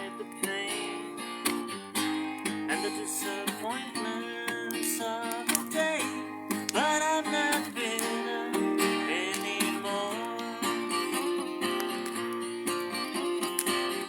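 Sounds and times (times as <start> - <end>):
person singing: 0.0 - 1.5, 2.6 - 12.1, 12.7 - 14.0
acoustic guitar chords: 0.0 - 14.0.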